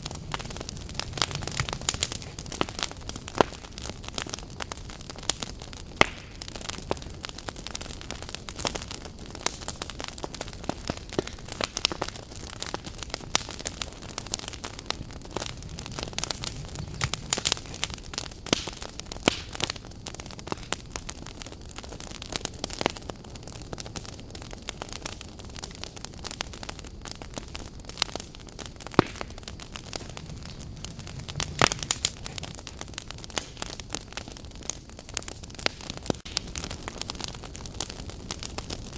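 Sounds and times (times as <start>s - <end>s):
hiss of flame: 0.0s - 21.8s, 27.3s - 38.9s
firewood burning with crackles: 0.0s - 38.9s.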